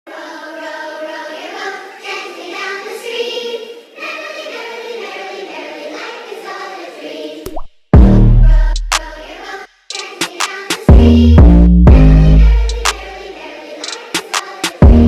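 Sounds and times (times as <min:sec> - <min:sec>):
choir singing: 0:00.1 - 0:07.4, 0:08.2 - 0:15.0.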